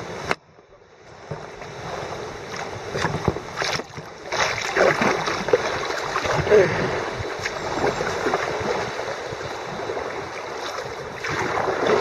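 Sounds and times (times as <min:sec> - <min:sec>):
water splashing and sloshing: 0:00.0 - 0:12.0
paddle splashes: 0:01.0 - 0:12.0.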